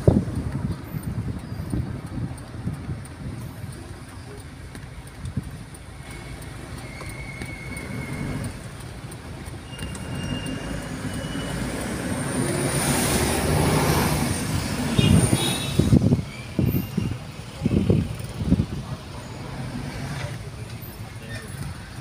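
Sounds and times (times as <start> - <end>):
road noise inside moving vehicle: 0.0 - 22.0.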